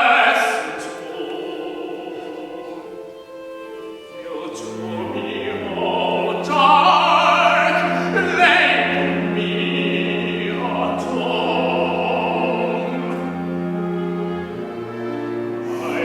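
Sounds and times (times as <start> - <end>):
operatic voice singing: 0.0 - 3.4, 4.0 - 14.8, 15.4 - 16.0
instrumental accompaniment: 0.2 - 16.0.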